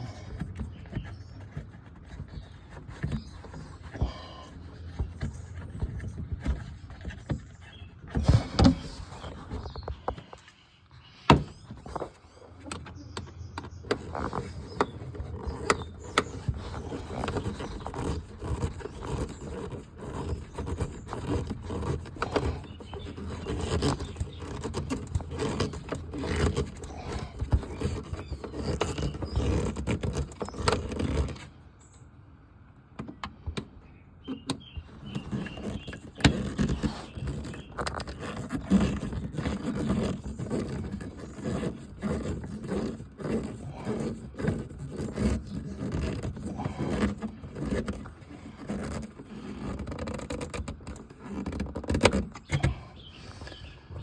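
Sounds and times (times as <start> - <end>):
hand handling noise: 0.0 - 32.1, 32.9 - 54.0.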